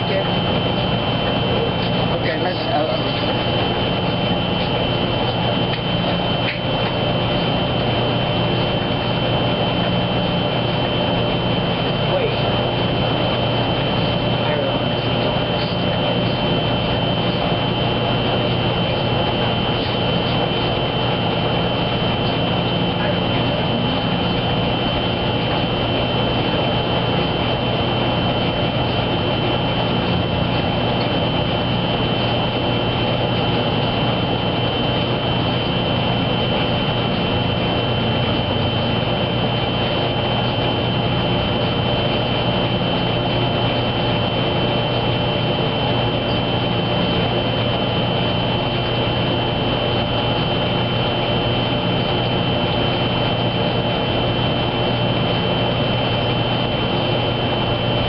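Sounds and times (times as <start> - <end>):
high machine whine: 0.0 - 58.0
washing machine humming: 0.0 - 58.0.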